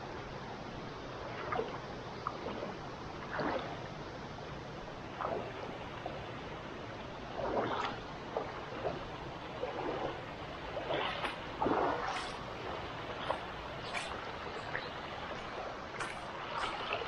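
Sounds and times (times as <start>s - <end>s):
river water flowing: 0.0s - 17.0s
water splashes: 1.1s - 17.0s.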